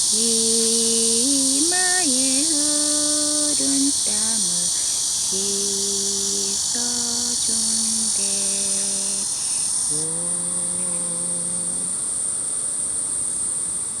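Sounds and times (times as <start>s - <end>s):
woman humming: 0.0s - 9.3s, 9.9s - 12.0s
lower buzzing layer: 0.0s - 12.4s
cicadas droning: 0.0s - 14.0s.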